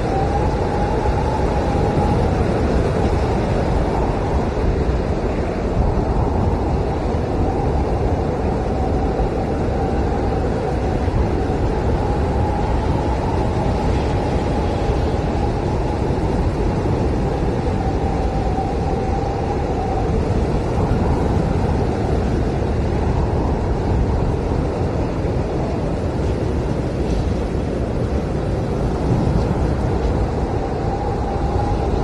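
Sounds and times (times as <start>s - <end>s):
blizzard wind rumbling: 0.0s - 32.0s
howling wind whistle: 0.0s - 32.0s.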